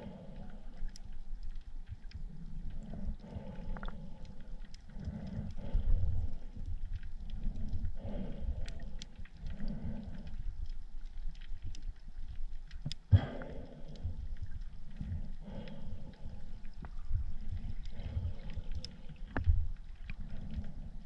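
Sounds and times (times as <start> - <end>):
underwater water rumbling: 0.0 - 21.0.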